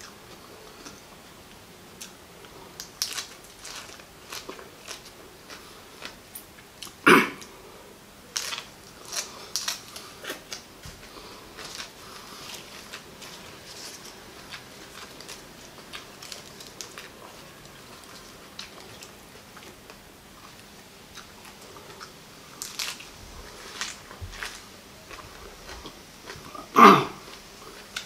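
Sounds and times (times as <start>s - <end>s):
crunching and chewing flowers: 2.0s - 7.0s, 8.3s - 28.0s.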